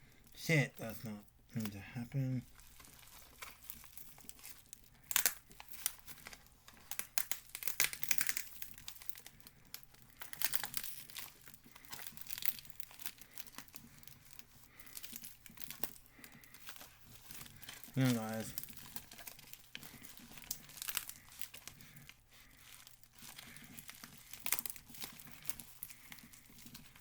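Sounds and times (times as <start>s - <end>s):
packaging crinkling and tearing: 0.0s - 27.0s.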